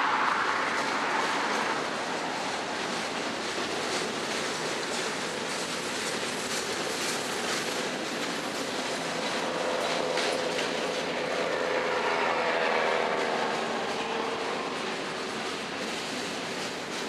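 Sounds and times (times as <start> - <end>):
train rumble: 0.0 - 17.0
train wheels clicking over rail joints: 0.2 - 17.0.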